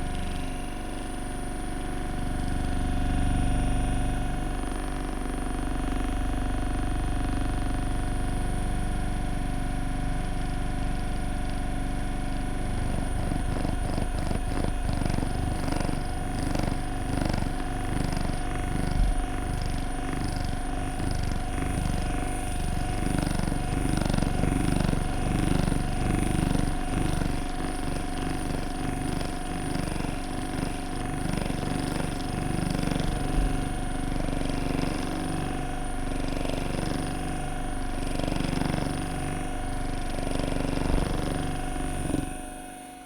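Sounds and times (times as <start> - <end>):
massage gun motor vibrating: 0.0 - 43.0.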